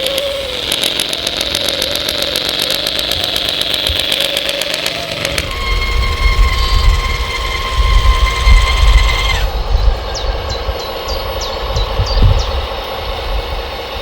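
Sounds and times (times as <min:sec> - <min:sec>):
electric motor whine: 0:00.0 - 0:14.0
high falling chirps: 0:00.0 - 0:14.0.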